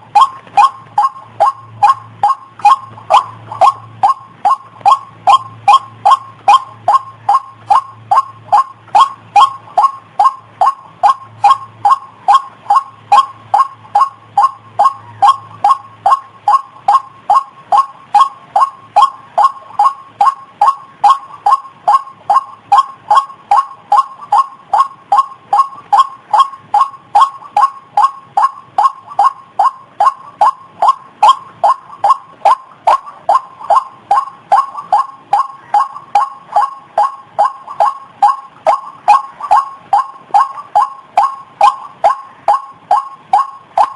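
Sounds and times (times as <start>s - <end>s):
faint low hum: 0.0s - 43.9s
waterhen calling: 0.0s - 43.9s.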